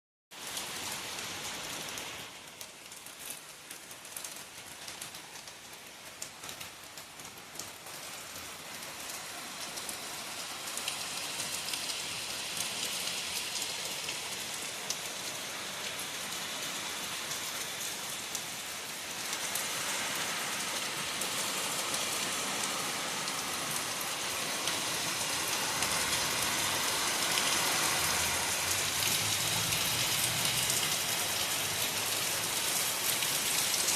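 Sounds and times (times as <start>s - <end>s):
steady rain falling: 0.3s - 33.9s
raindrops ticking: 2.0s - 16.6s, 21.2s - 33.9s.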